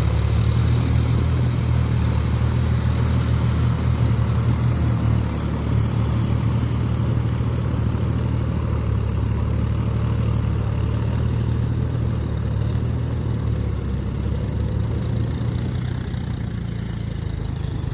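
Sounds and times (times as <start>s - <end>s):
tractor diesel engine droning: 0.0s - 17.9s.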